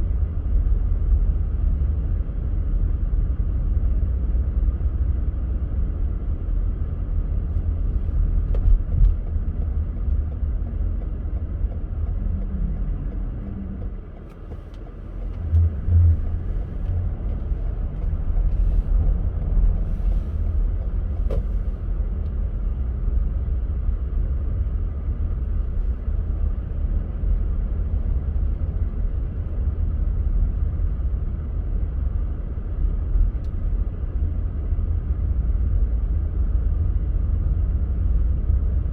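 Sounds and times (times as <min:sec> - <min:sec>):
car driving rumble from inside: 0:00.0 - 0:38.9.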